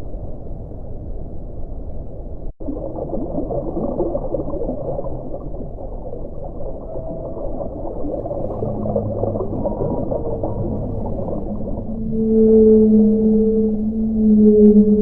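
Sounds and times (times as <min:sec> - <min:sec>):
steady low tones: 0:02.3 - 0:15.0
underwater bubbling rumble: 0:02.6 - 0:15.0.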